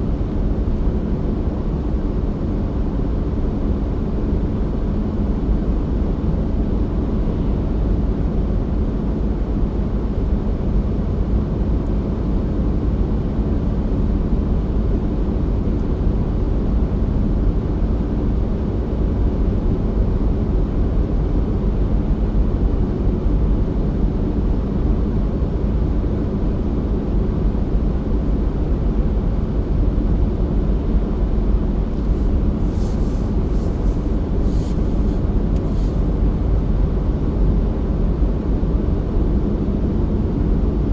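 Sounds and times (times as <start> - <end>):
car engine and tyre rumble: 0.0 - 19.5, 26.2 - 40.9.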